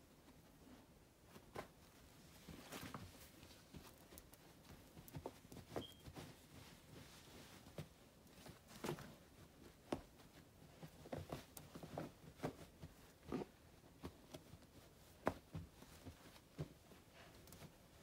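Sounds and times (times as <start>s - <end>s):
scratches and fabric rustles: 0.0s - 18.0s
dog pawing at towels: 1.2s - 18.0s.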